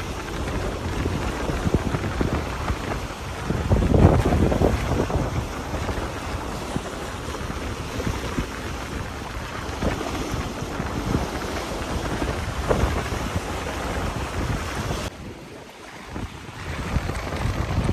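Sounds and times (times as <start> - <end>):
waves slapping against rocks: 0.0 - 17.9
wind buffeting microphone: 0.0 - 17.9.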